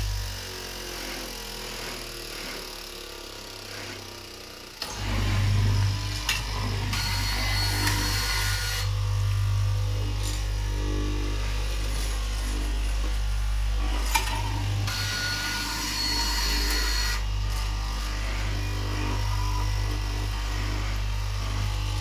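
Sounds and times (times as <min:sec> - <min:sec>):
blade rasping through fabric: 0:00.0 - 0:22.0
cutting machine motor hum: 0:00.0 - 0:22.0.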